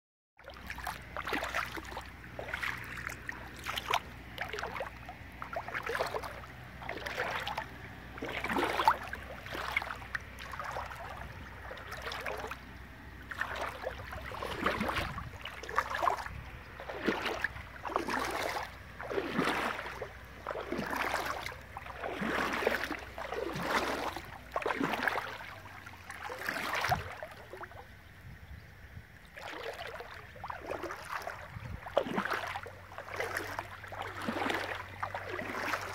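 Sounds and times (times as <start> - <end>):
footsteps wading through water: 0.4 - 35.9.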